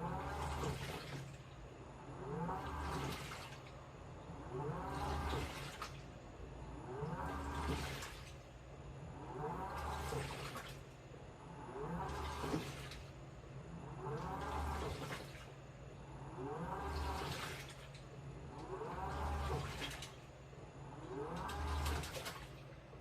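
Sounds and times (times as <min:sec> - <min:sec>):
water swishing: 0:00.0 - 0:22.8
washing machine motor whining: 0:00.0 - 0:23.0.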